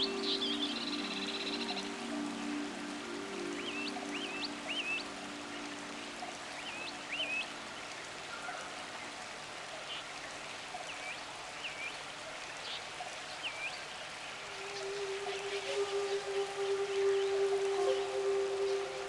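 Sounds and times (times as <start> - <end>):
soft sustained music chord: 0.0 - 9.6, 13.0 - 19.0
flowing stream: 0.0 - 19.0
small birds chirping: 0.0 - 19.0.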